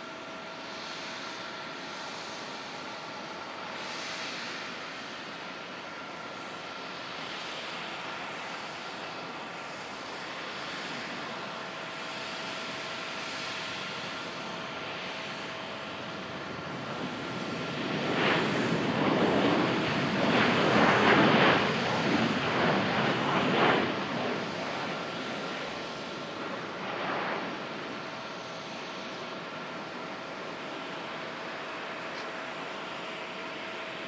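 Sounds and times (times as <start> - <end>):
jet engine whine and roar: 0.0 - 34.0.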